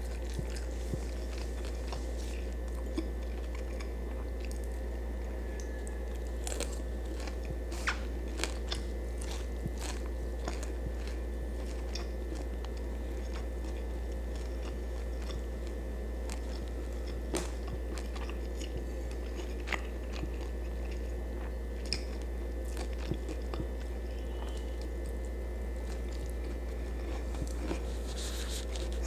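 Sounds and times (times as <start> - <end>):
person chewing food: 0.0 - 29.0
steady low hum: 0.0 - 29.0.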